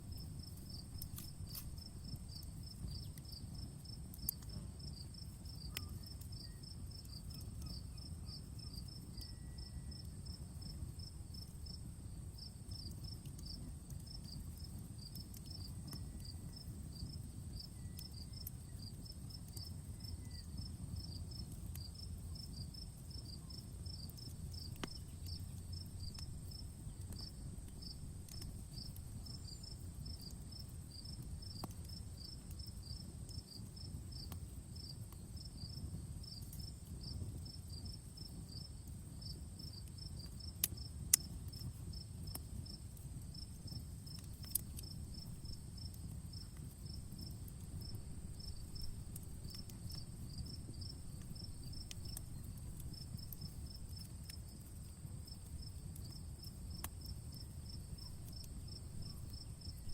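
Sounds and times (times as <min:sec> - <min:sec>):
campfire crackling: 0:00.0 - 0:59.9
insects chirping: 0:00.0 - 0:59.9.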